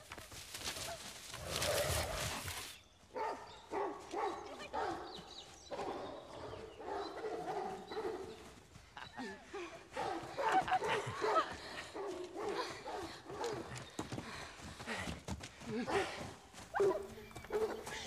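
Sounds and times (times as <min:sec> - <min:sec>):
hounds baying and barking: 0:00.7 - 0:14.0, 0:15.9 - 0:18.0.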